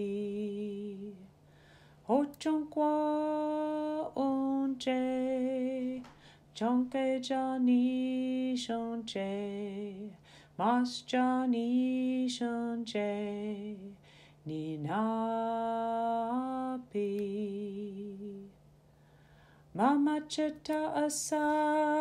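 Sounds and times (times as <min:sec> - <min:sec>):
person singing unaccompanied: 0:00.0 - 0:01.3, 0:02.0 - 0:18.6, 0:19.7 - 0:22.0.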